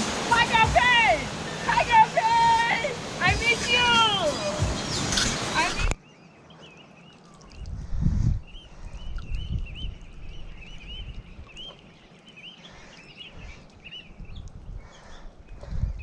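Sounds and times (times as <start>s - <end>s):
small birds chirping: 0.3s - 16.0s.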